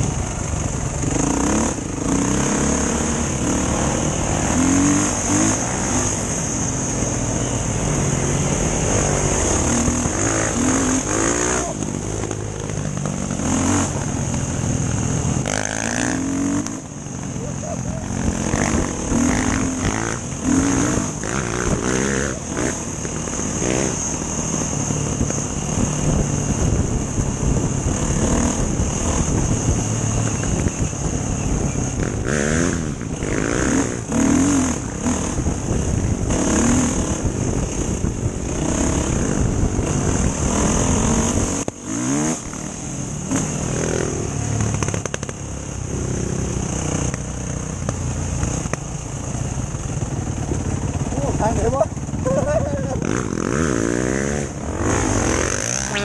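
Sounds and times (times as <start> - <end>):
motorcycle engine revving: 0.0 - 56.0
steady rushing noise: 0.0 - 56.0.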